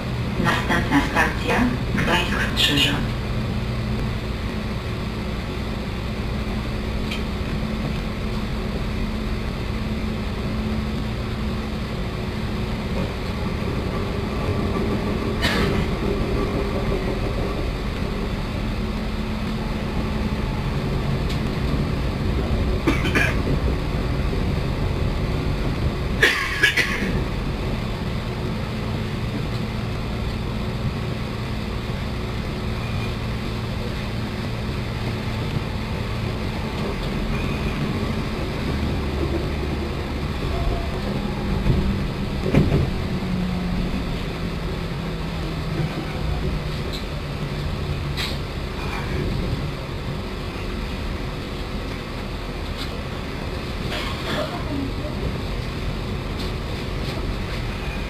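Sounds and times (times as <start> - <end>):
train cabin rumble: 0.0 - 58.0.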